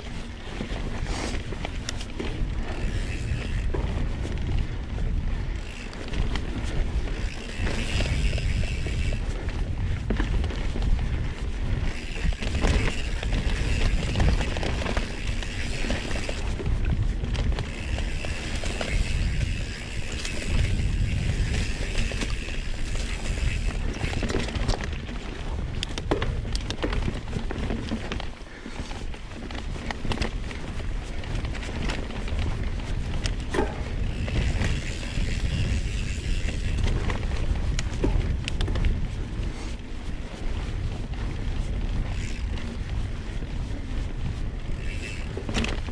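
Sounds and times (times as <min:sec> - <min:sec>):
bike rattling clicks and knocks: 0:00.0 - 0:45.9
bike tyres on dirt trail: 0:00.0 - 0:45.9
wind buffeting microphone: 0:00.0 - 0:45.9.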